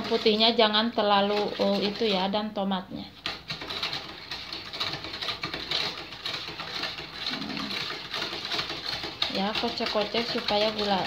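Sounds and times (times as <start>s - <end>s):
spoon stirring in metal pot: 0.0s - 11.0s.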